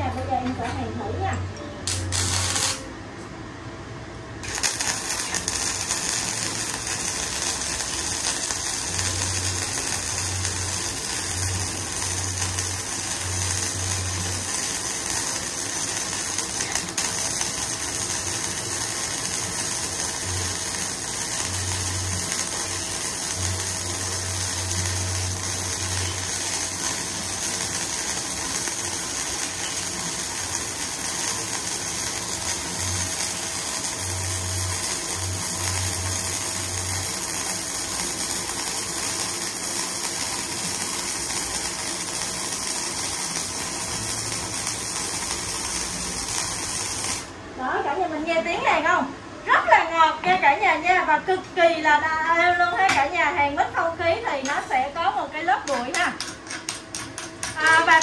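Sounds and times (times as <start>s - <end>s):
welder arc crackling: 1.8s - 2.9s, 4.4s - 47.4s, 52.8s - 58.0s.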